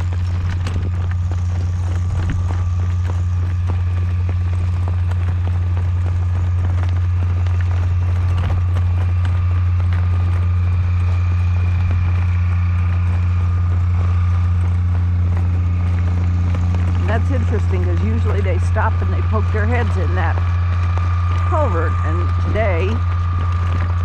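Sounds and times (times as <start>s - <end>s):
horse hooves clip-clopping: 0.0s - 24.0s
wind rumble on microphone: 0.0s - 24.0s.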